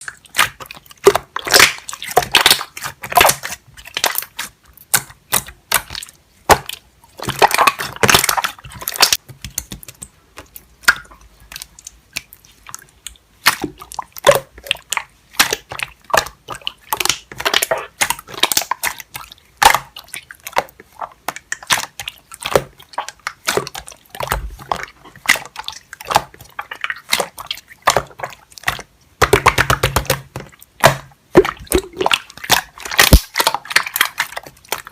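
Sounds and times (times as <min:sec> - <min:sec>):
slime squelching by hand: 0:00.0 - 0:34.9.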